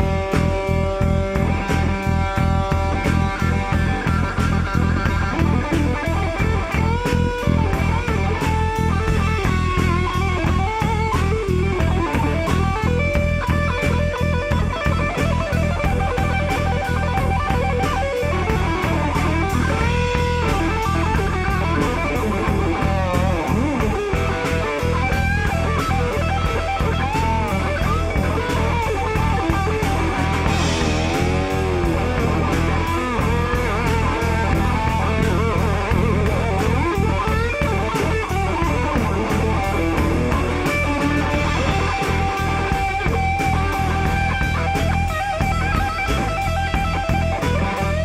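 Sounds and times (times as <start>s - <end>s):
bass line: 0.0s - 48.0s
drum kit: 0.0s - 48.0s
electric guitar lead: 0.0s - 48.0s.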